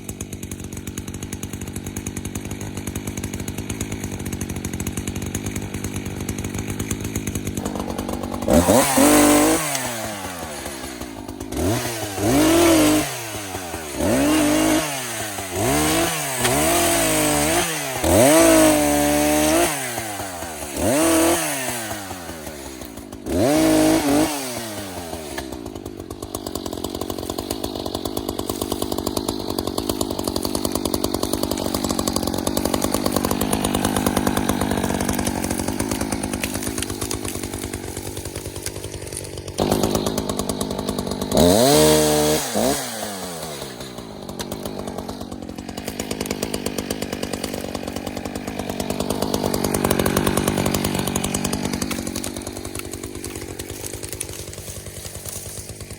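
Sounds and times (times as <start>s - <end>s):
chainsaw revving and cutting: 0.0s - 55.9s.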